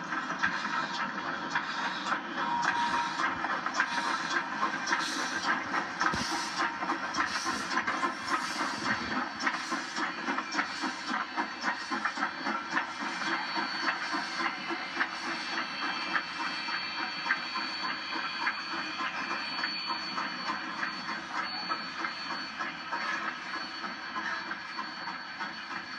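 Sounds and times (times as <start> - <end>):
steam locomotive chuffing and clanking: 0.0 - 25.9
steam hiss: 0.2 - 25.9.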